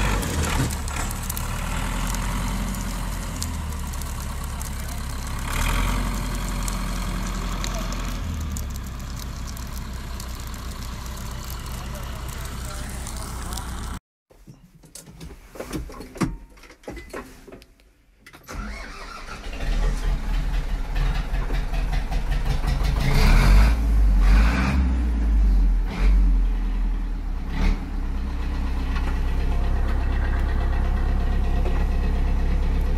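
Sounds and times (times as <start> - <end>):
diesel tractor engine running: 0.0 - 14.0, 18.5 - 24.4, 26.4 - 32.9.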